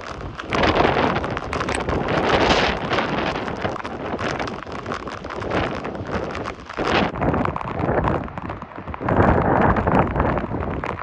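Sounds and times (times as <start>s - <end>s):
wind buffeting the microphone: 0.0s - 11.0s.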